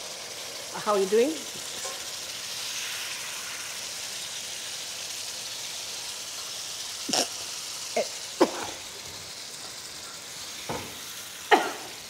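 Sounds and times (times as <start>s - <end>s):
gravy sizzling in a wok: 0.0s - 12.0s.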